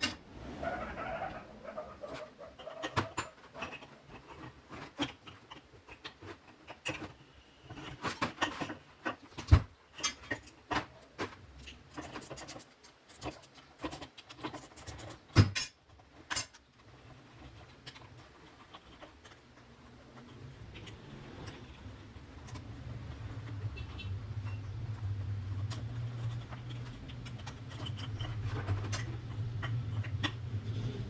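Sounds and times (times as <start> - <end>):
hand tools clicking and scraping: 0.0 - 31.0.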